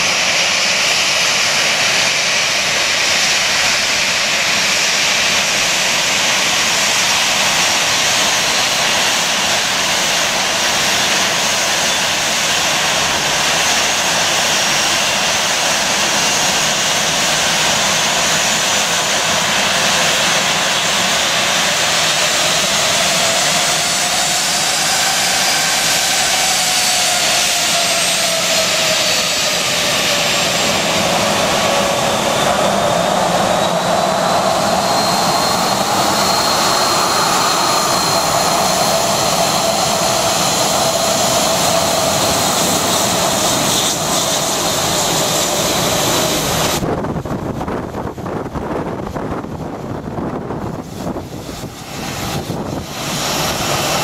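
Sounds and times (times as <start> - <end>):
jet blast rushing on microphone: 0.0 - 54.0
jet engines whining: 0.0 - 54.0.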